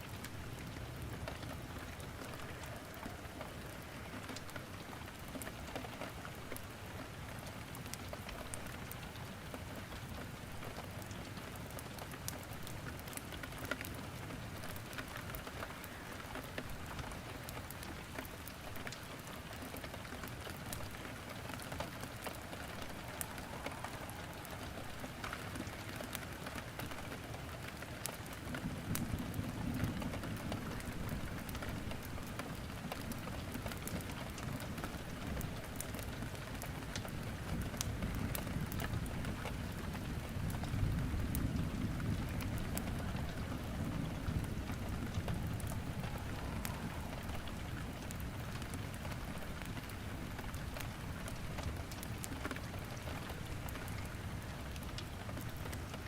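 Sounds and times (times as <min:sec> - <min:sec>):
rain pattering on a surface: 0:00.0 - 0:56.0
burning wood crackling and popping: 0:00.1 - 0:56.0.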